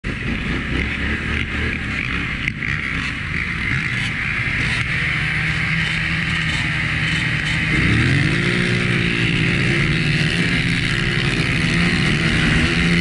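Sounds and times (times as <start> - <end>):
atv engine running: 0.0 - 13.0
dirt bike engines: 0.0 - 13.0.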